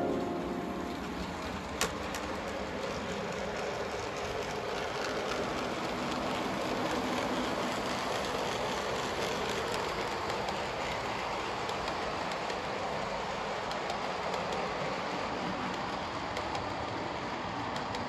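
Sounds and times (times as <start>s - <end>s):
model train wheels rattling: 1.0s - 18.0s.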